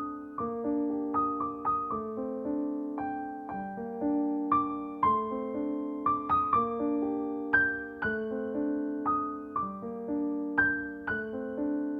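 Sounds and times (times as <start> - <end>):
piano music: 0.0 - 11.9.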